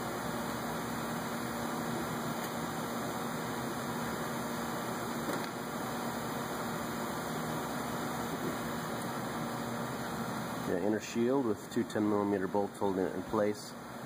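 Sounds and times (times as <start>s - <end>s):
ventilation hiss and hum: 0.0s - 14.0s.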